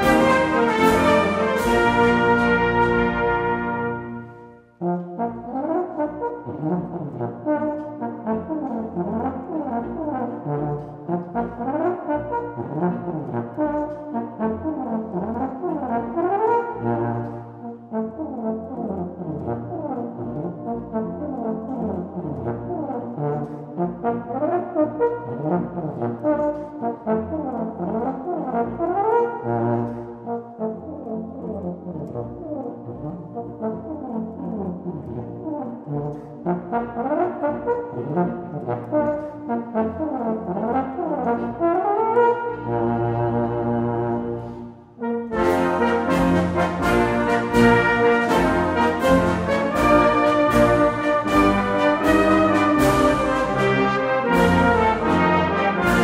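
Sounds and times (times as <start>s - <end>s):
brass band playing: 0.0s - 31.2s, 32.1s - 56.0s
solo euphonium playing: 0.0s - 56.0s.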